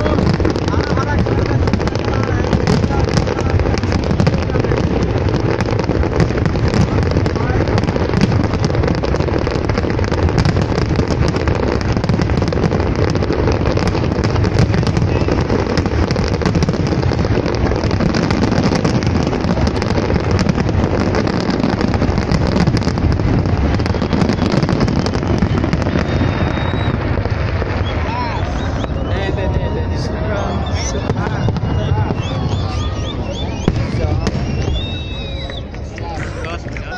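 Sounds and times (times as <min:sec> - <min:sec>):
fireworks popping and crackling: 0:00.0 - 0:36.9
fireworks rumble: 0:00.0 - 0:36.9.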